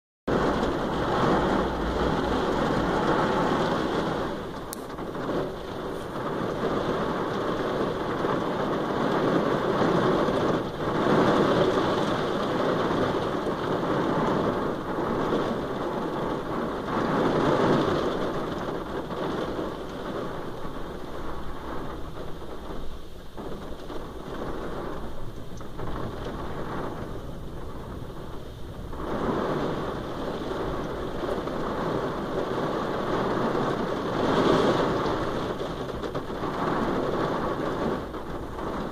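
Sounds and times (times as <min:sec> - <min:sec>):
heavy rain on car roof: 0:00.3 - 0:38.9.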